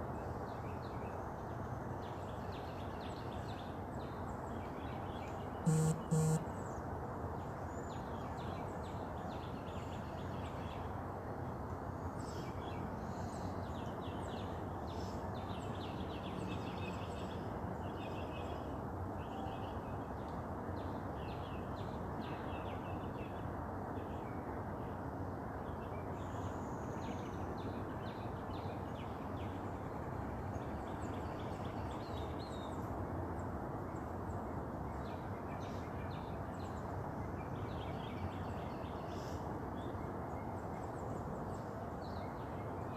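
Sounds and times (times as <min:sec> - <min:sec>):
low background noise: 0:00.0 - 0:42.9.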